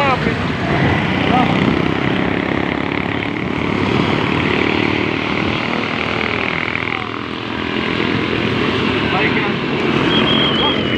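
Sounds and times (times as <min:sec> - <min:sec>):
bus engine drone: 0:00.5 - 0:10.9.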